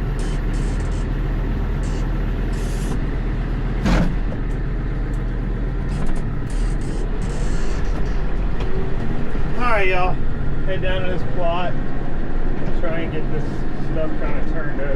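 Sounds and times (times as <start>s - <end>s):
diesel tractor engine running: 0.0s - 14.9s.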